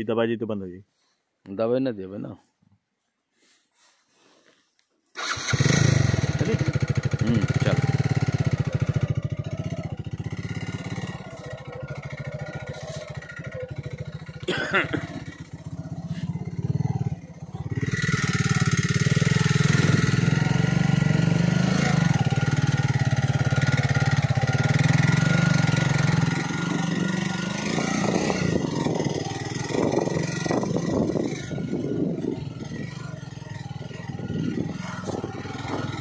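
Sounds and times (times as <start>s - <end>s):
motorcycle engine running: 5.2s - 36.0s.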